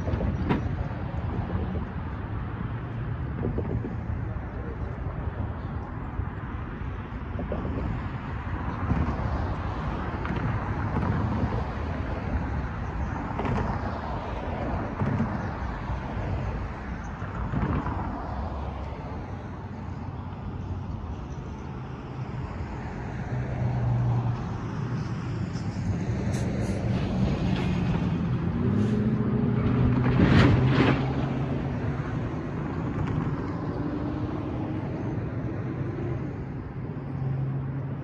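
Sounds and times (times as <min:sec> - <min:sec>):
cars passing over railroad crossing: 0:00.0 - 0:38.0.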